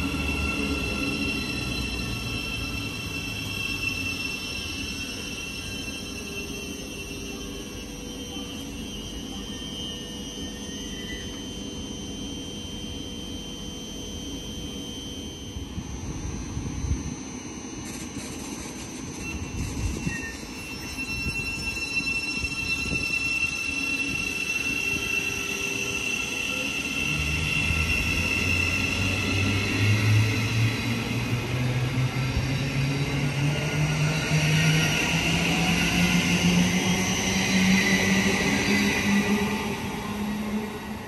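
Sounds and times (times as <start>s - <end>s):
train electric whine: 0.0s - 41.0s.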